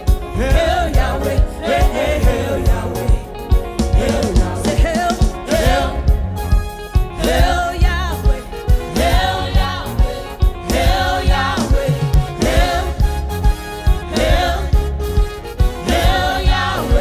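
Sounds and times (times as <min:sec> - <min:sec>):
person singing gospel: 0:00.0 - 0:06.2, 0:07.1 - 0:13.2, 0:15.7 - 0:17.0
steady regular beat: 0:00.0 - 0:17.0.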